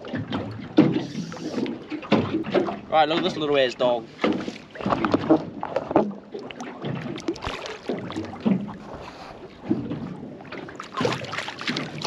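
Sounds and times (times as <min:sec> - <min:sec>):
water sloshing against boat hull: 0:00.0 - 0:12.0.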